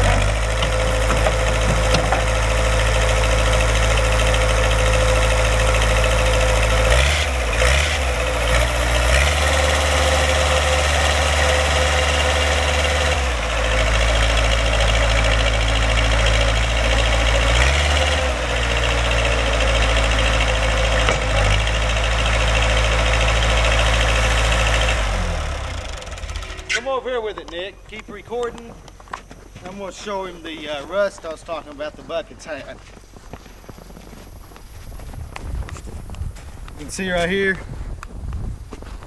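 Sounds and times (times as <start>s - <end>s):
backhoe engine running: 0.0s - 39.0s.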